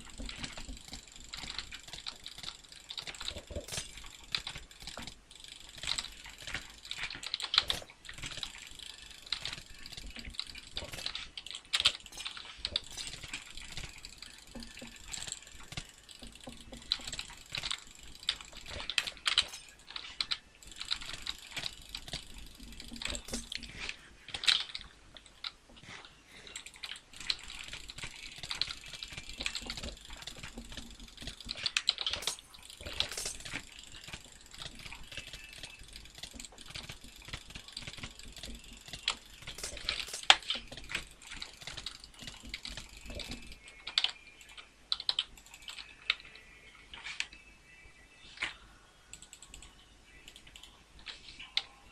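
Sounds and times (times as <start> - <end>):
dense irregular clicking: 0.0 - 47.3, 49.1 - 51.7.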